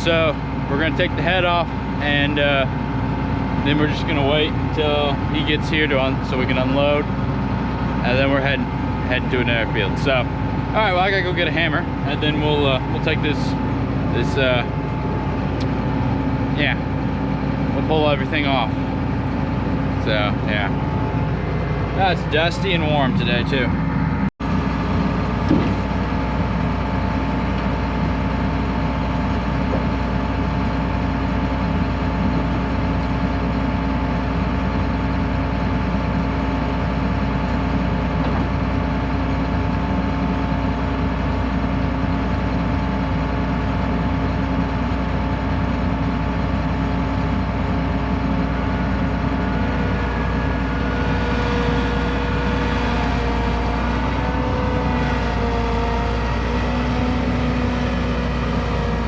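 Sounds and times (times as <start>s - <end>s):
diesel engine idling: 0.0s - 59.0s
high whine: 0.0s - 59.0s.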